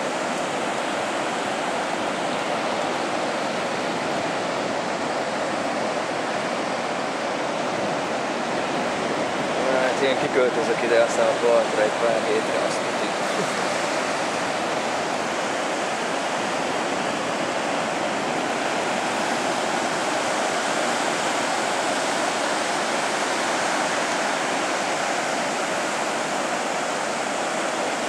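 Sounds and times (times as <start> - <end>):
ocean surf on beach: 0.0 - 28.0.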